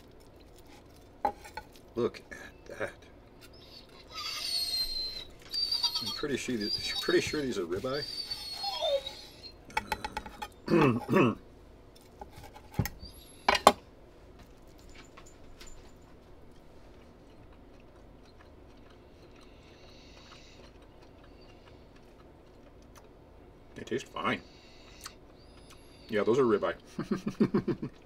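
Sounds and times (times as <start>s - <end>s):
faint chewing: 0.0s - 11.2s, 14.3s - 28.0s.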